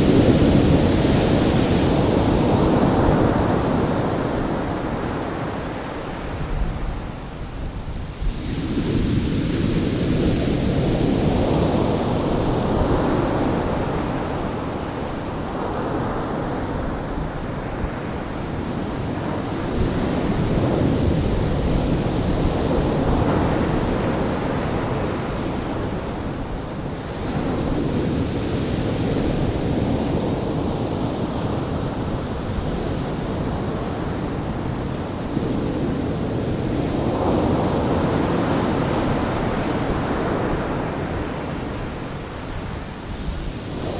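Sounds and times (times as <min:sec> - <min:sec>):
ocean waves surf rushing: 0:00.0 - 0:43.9.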